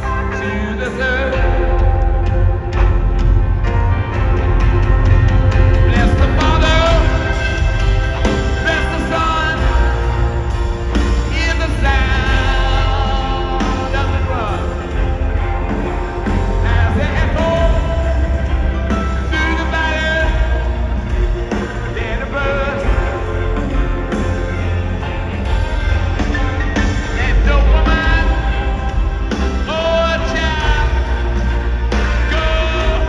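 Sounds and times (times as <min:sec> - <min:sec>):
person singing: 0:00.0 - 0:03.1, 0:05.5 - 0:33.0
live rock band playing: 0:00.0 - 0:33.0.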